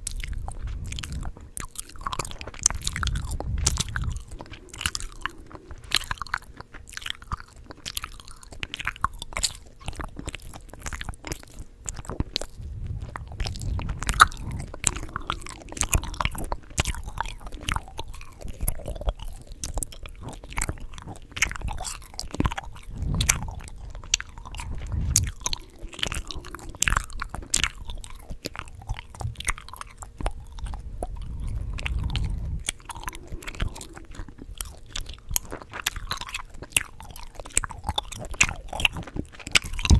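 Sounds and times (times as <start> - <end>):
gum chewing: 0.0 - 39.9.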